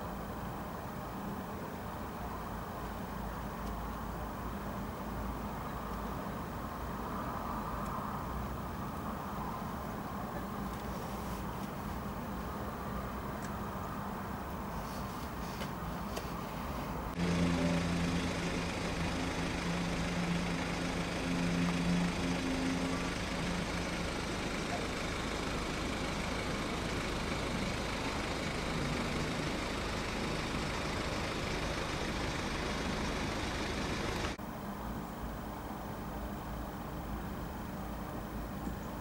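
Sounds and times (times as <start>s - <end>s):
moving vehicle engine hum: 0.0s - 39.0s.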